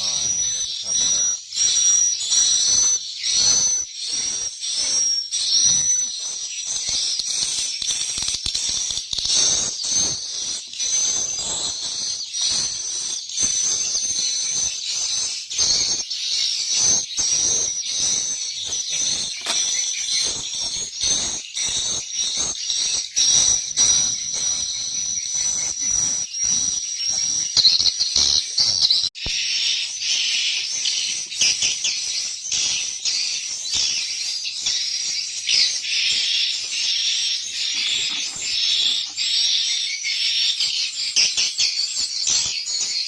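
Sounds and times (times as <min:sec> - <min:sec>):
swiftlets twittering: 0:00.0 - 0:39.9.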